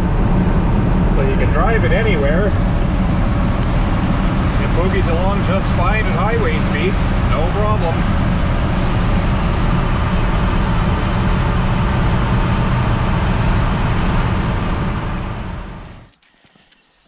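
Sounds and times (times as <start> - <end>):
road and wind noise: 0.0 - 16.2
truck engine at highway speed: 0.0 - 16.2.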